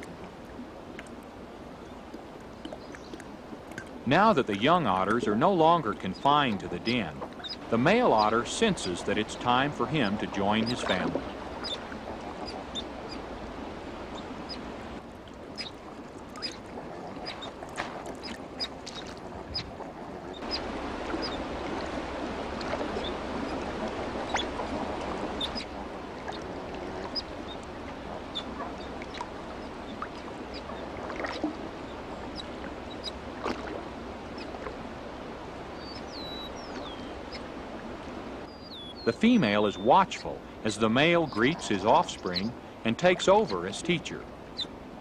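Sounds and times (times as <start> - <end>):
water sloshing and splashing: 0.0 - 39.4.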